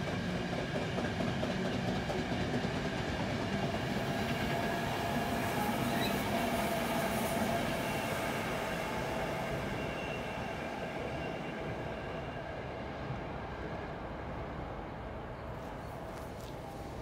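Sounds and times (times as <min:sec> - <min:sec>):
electric train rolling on rails: 0:00.0 - 0:17.0
high whine of train: 0:00.0 - 0:17.0.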